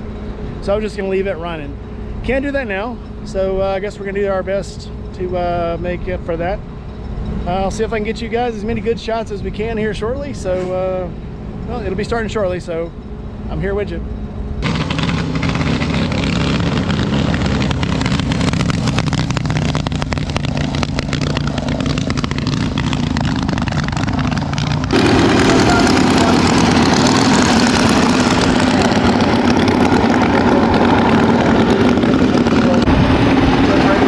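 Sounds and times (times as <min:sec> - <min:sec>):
motorcycle engines running: 0:00.0 - 0:34.0.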